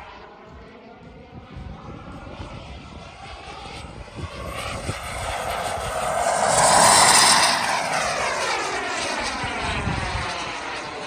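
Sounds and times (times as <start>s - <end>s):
model jet turbine whining: 1.8s - 11.0s.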